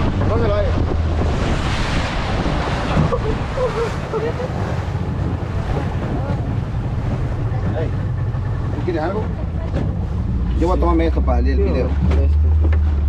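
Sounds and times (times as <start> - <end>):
wind buffeting microphone: 0.0 - 11.4
water rushing past boat: 0.0 - 13.0
boat motor running low: 2.2 - 13.0.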